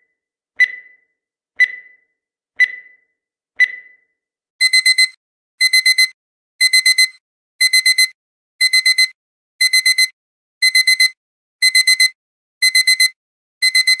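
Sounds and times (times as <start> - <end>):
digital alarm clock beeping: 0.0 - 14.0.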